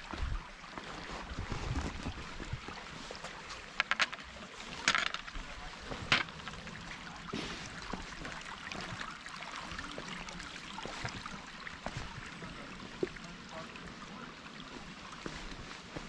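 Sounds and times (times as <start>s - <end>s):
creek water over rocks: 0.0s - 16.0s.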